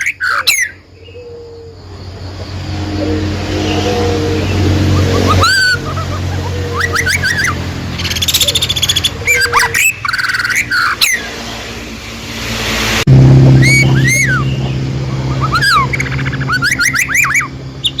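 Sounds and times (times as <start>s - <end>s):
small songbirds chirping: 0.0s - 12.2s, 13.6s - 18.0s
steady low hum: 0.7s - 18.0s.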